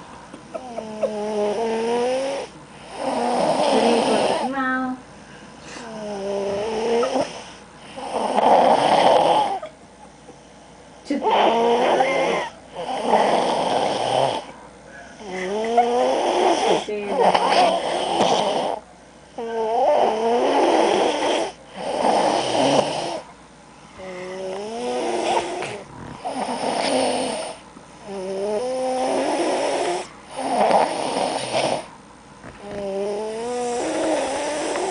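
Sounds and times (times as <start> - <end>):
loud snoring: 0.6 - 4.6, 5.8 - 9.7, 11.2 - 14.5, 15.2 - 23.3, 24.0 - 31.9, 32.5 - 34.9.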